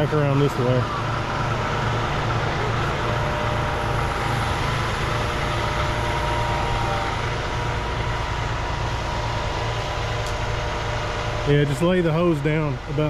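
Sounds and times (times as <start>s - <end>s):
faint steady whine: 0.0s - 13.0s
heavy diesel engine running: 0.0s - 13.0s.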